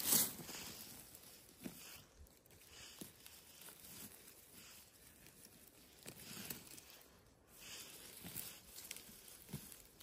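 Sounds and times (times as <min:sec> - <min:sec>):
faint rustling: 0:00.0 - 0:10.0.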